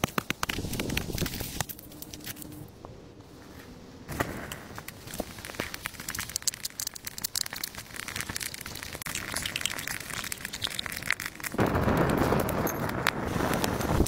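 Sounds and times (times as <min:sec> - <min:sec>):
wood fire crackling: 0:00.0 - 0:02.6, 0:04.1 - 0:14.0.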